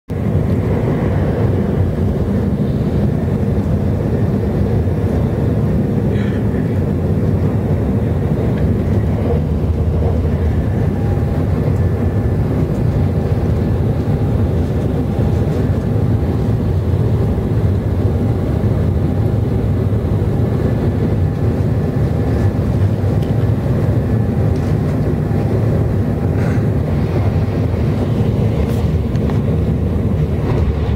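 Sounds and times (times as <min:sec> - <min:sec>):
train cabin low rumble: 0:00.1 - 0:30.9.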